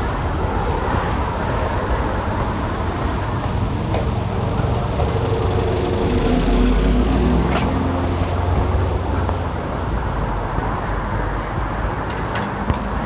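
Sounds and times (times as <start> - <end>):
passing traffic: 0.0 - 13.0
vehicle engine rumbling: 0.0 - 13.0.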